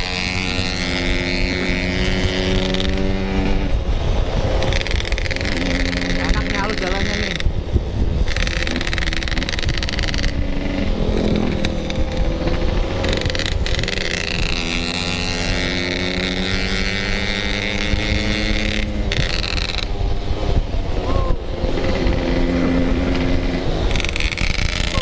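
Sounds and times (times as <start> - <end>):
motorcycle two-stroke engine running: 0.0 - 25.0
wind rumble on microphone: 0.0 - 25.0.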